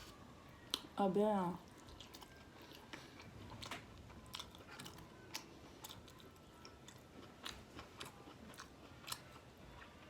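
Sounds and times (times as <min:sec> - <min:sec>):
person chewing food: 0:01.6 - 0:10.0.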